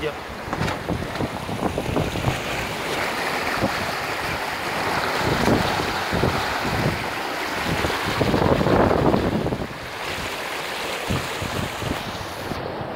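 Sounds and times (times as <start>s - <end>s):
water rushing along hull: 0.0s - 12.9s
wind buffeting microphone: 0.0s - 12.9s.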